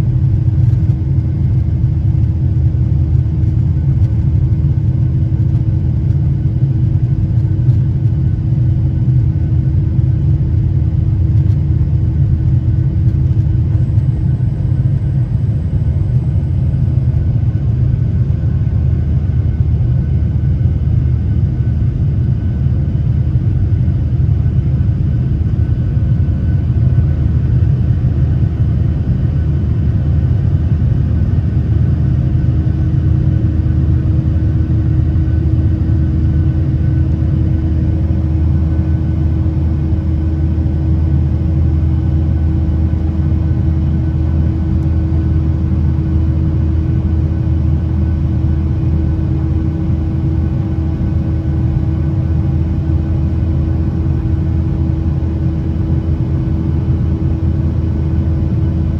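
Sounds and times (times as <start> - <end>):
jet engine low rumble: 0.0 - 58.9
steady hum: 0.0 - 58.9.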